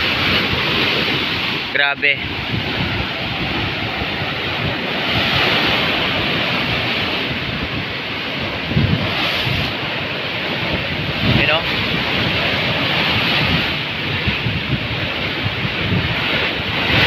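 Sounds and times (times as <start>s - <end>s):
surf breaking: 0.0s - 17.0s
wind buffeting microphone: 0.0s - 17.0s.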